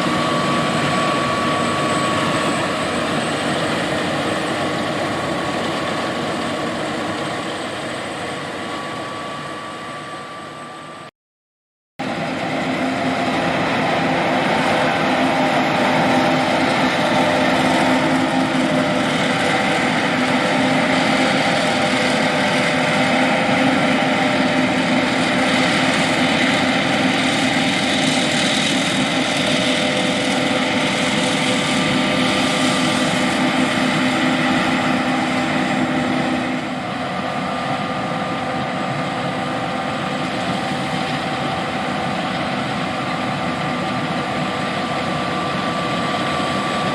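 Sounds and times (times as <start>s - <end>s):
combine harvester running: 0.0s - 11.1s, 12.0s - 46.9s.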